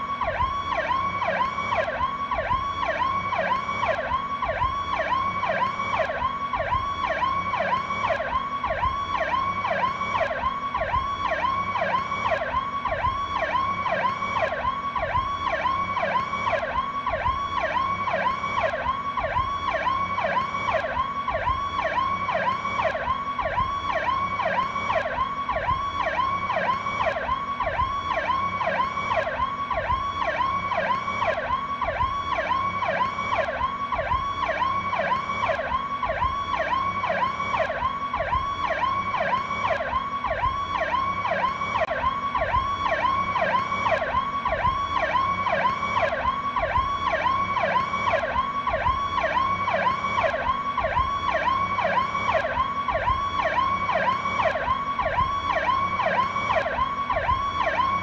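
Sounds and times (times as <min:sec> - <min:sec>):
electronic police siren: 0:00.0 - 0:58.0.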